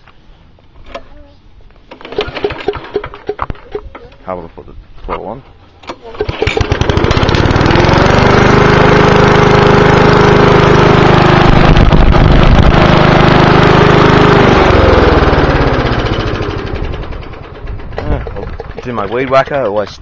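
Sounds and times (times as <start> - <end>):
lawn mower engine running: 1.9 - 4.0, 5.7 - 20.0.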